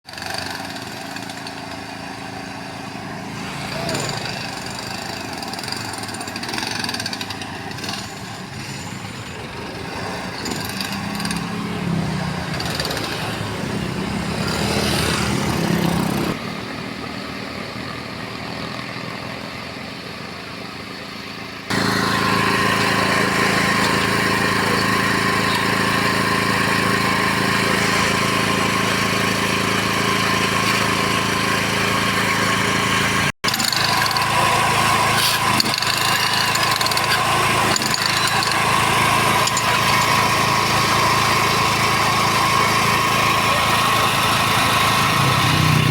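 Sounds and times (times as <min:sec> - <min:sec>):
engines running at road works: 0:00.1 - 0:45.9
steady engine drone: 0:00.1 - 0:45.9
traffic noise: 0:01.3 - 0:45.9.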